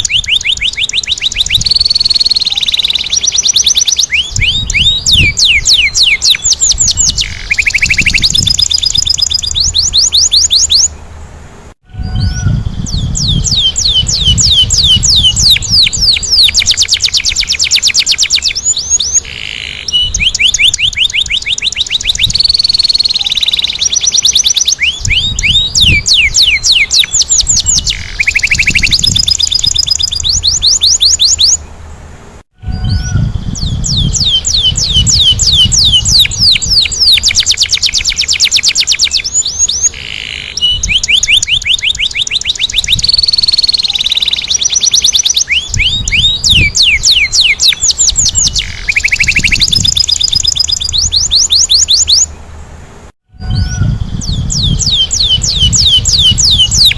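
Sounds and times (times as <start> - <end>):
canary singing trills: 0.0 - 11.1, 12.0 - 31.8, 32.6 - 52.5, 53.4 - 56.9.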